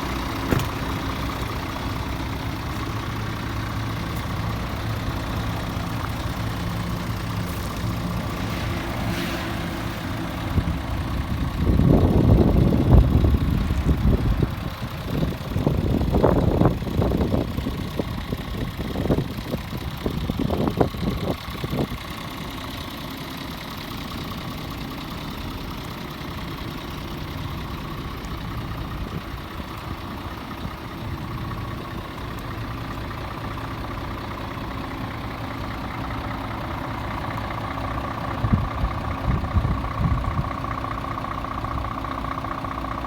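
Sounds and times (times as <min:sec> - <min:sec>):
diesel truck idling: 0:00.0 - 0:43.0.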